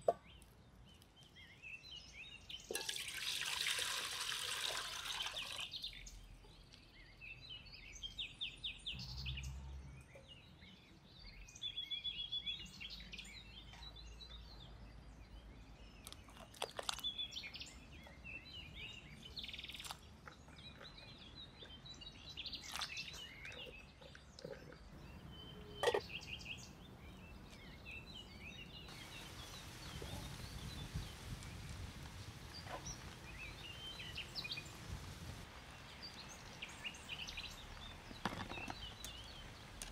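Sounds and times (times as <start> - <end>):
small birds chirping: 0.0 - 3.3, 4.5 - 39.9.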